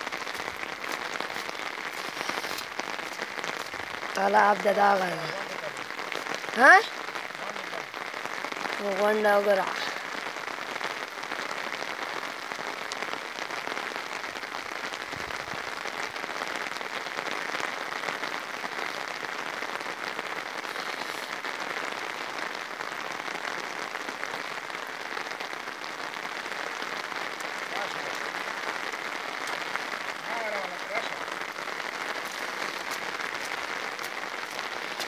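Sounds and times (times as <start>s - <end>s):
heavy rain pattering: 0.0s - 35.0s.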